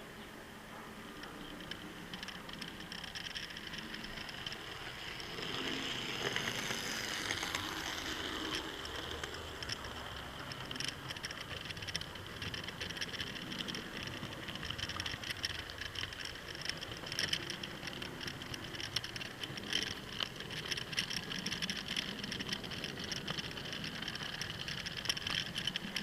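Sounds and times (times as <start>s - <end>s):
model train wheels rattling: 0.6s - 26.0s.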